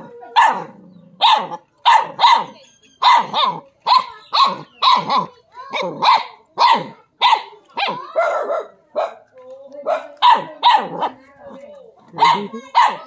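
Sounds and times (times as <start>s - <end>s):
dog barking: 0.0s - 11.2s, 12.1s - 13.0s.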